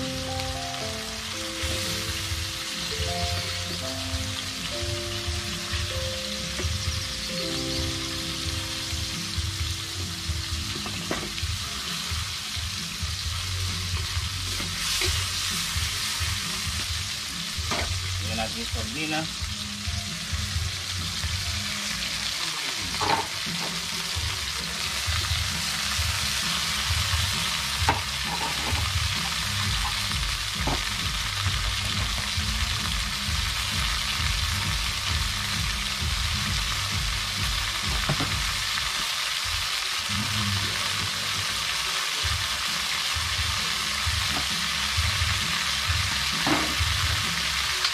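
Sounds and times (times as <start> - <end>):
food sizzling in hot oil: 0.0 - 47.9.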